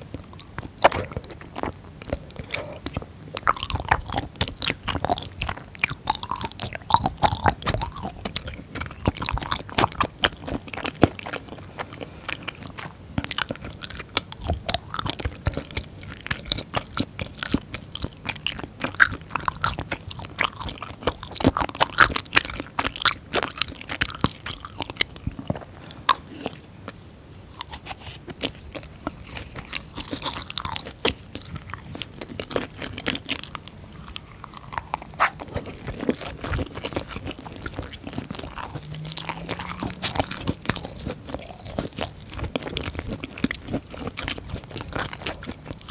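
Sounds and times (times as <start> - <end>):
close chewing with wet chews: 0.0 - 45.9.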